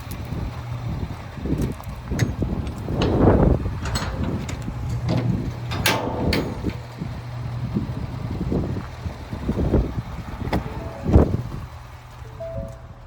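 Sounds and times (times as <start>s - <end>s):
diesel engine idling: 0.0s - 13.0s
wind on microphone: 0.2s - 11.8s.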